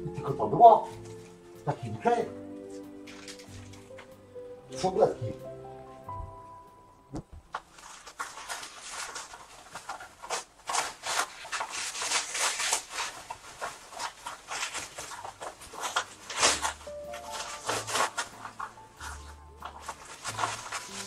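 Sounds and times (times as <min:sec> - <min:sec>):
packaging rustling and crinkling: 0:00.3 - 0:04.1, 0:07.2 - 0:21.0.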